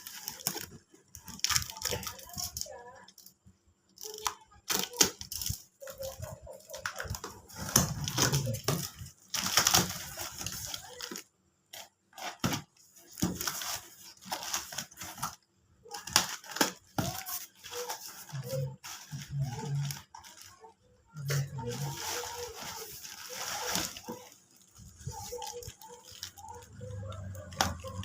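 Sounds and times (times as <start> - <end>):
packaging rustling and tearing: 0.0 - 2.7, 4.0 - 28.0.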